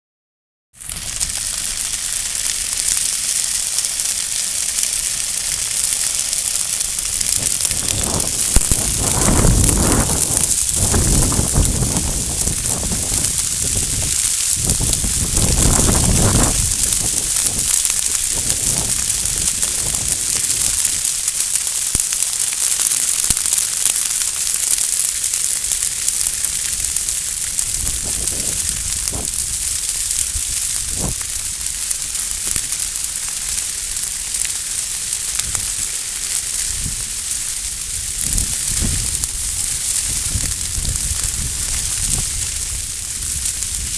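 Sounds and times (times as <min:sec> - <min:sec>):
grass fire crackling: 0:00.7 - 0:43.9.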